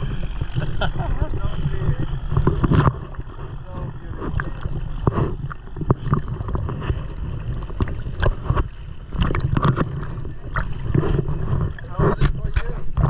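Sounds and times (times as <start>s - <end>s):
sea water sloshing and slapping: 0.0s - 13.0s
water splashes: 0.0s - 13.0s
wind rumble on microphone: 0.0s - 13.0s.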